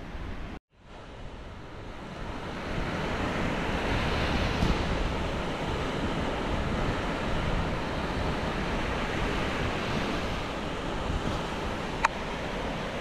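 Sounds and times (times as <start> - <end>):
wind buffeting microphone: 0.0 - 13.0
small waves washing on beach: 0.1 - 13.0.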